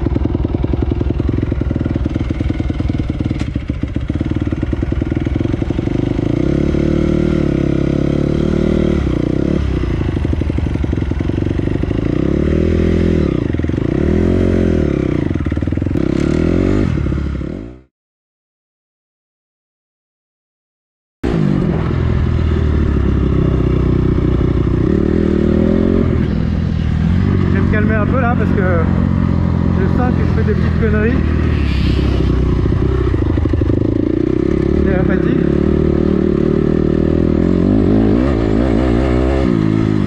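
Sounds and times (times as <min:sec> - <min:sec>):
motorbike engine idling and revving: 0:00.0 - 0:17.9, 0:21.2 - 0:40.0.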